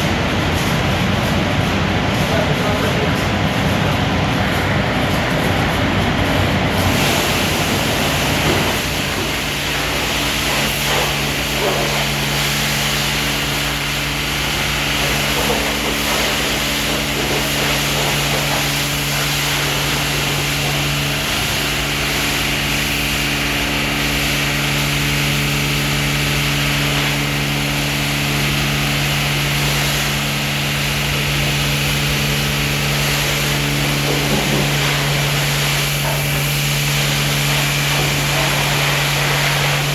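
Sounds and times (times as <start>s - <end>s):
car wash motor hum: 0.0s - 39.9s.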